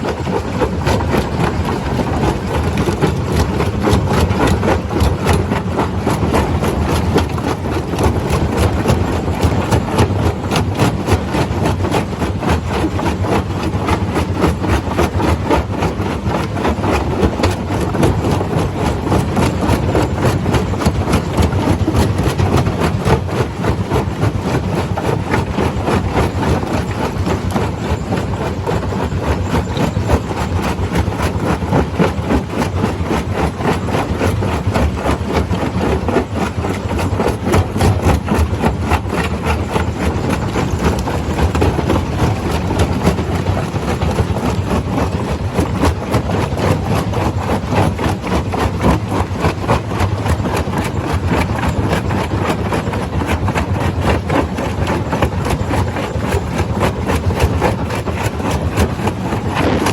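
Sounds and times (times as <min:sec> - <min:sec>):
stone crusher droning: 0:00.1 - 0:59.9.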